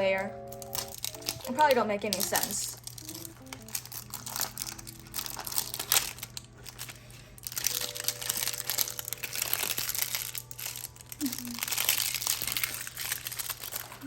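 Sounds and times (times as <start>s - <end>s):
plastic wrapping crinkling: 0.4s - 14.0s.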